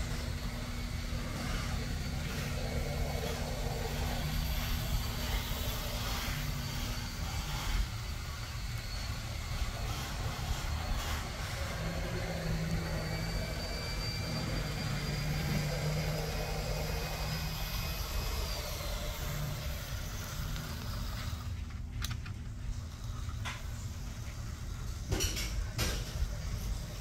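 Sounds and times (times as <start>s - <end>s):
high motor whine: 0.0s - 27.0s.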